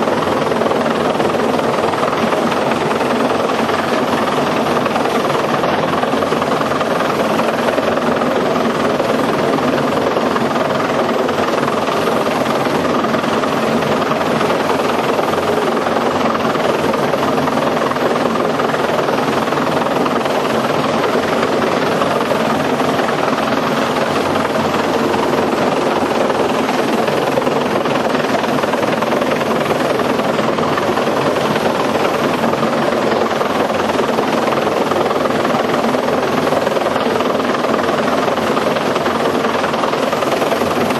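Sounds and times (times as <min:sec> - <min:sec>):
helicopter engine and rotors drone: 0:00.0 - 0:40.9.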